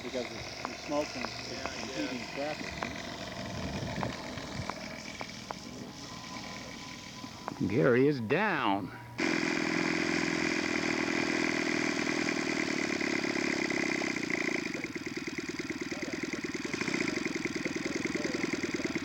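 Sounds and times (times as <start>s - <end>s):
model aeroplane engine running: 0.0s - 7.9s, 9.2s - 19.0s.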